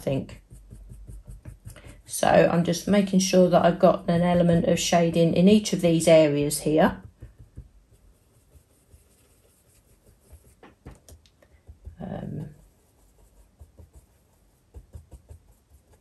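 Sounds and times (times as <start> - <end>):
brush scratching and tapping on card: 0.0 - 16.0.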